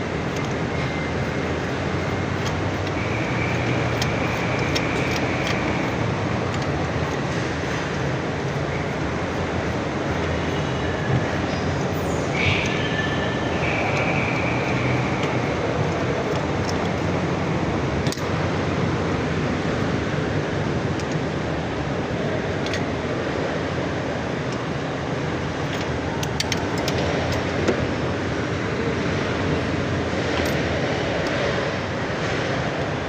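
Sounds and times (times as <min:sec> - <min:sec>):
forklift engine running: 0:00.0 - 0:33.0.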